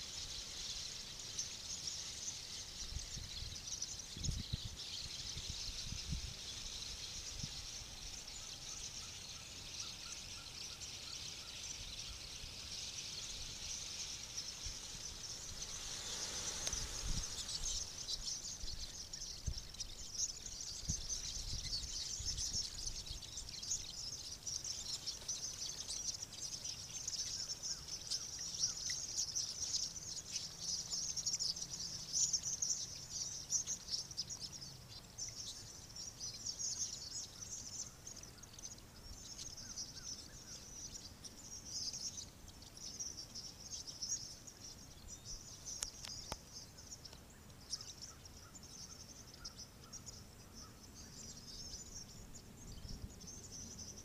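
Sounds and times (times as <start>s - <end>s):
flock of small birds calling: 0.0s - 54.0s.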